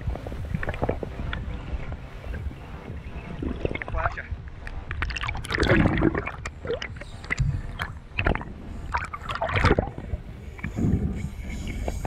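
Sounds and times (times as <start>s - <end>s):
underwater rushing and gurgling: 0.0s - 12.0s.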